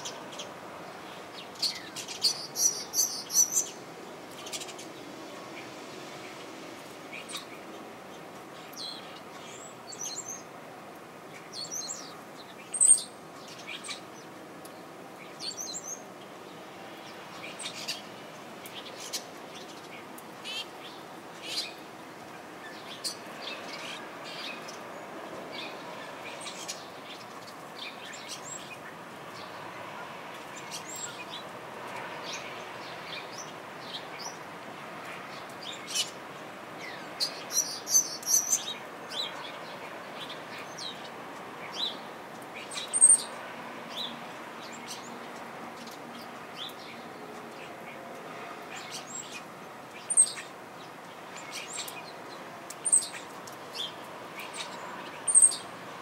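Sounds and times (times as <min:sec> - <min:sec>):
small songbirds chirping: 0:00.0 - 0:56.0.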